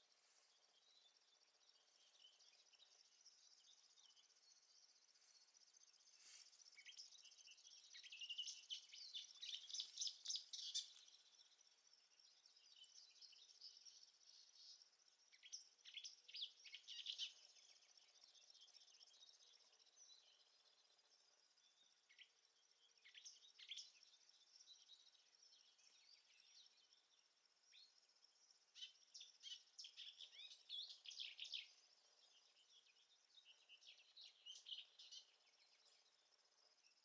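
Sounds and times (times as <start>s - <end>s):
faint songbird chirps: 0.0s - 37.0s
insects droning: 0.0s - 37.0s.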